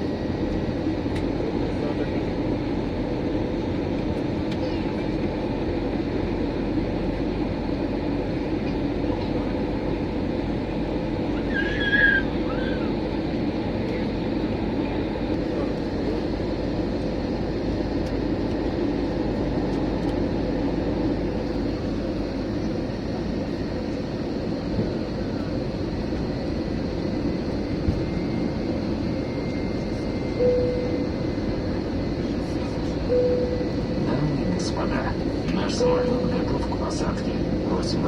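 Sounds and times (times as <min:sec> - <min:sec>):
airplane cabin engine drone: 0:00.0 - 0:38.0
constant hum: 0:00.0 - 0:38.0.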